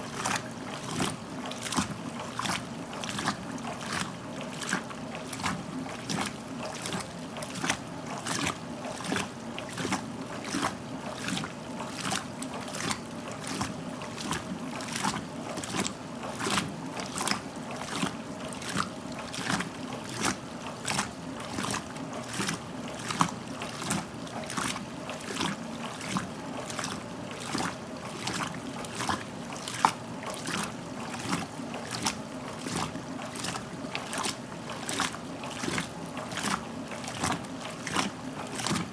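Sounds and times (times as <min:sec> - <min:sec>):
clothes slapping in water: 0:00.0 - 0:38.9
washing machine motor hum: 0:00.0 - 0:38.9.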